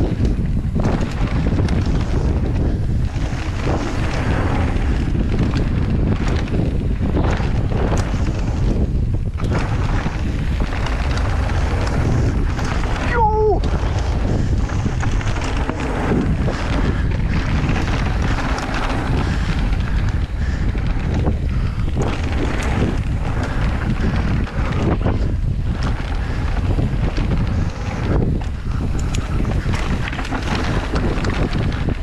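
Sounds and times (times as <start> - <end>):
bike clicks and rattles: 0.0 - 32.0
tyres rolling on gravel: 0.0 - 32.0
wind buffeting microphone: 0.0 - 32.0.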